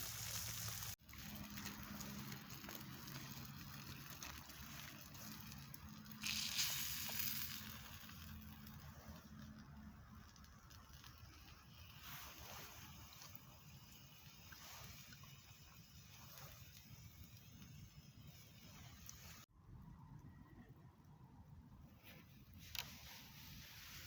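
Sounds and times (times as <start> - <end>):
campfire crackling and hissing: 0.0 - 19.5, 22.1 - 24.0.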